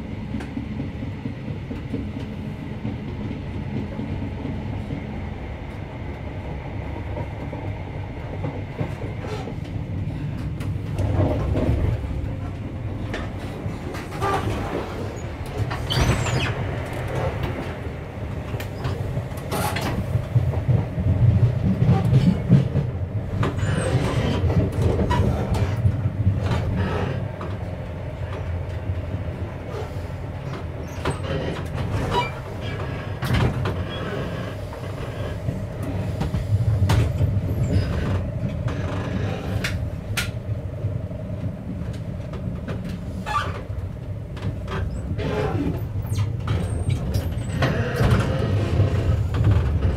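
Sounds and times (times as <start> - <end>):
train wheels rumbling: 0.0 - 49.9.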